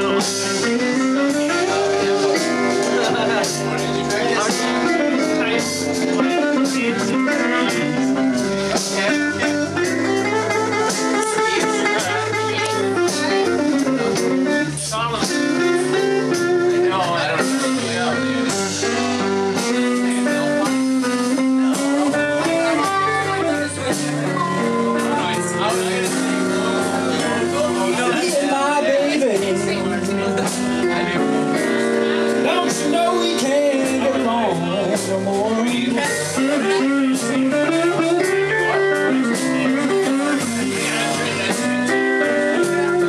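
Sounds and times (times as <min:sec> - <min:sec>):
live blues band playing: 0:00.0 - 0:43.0.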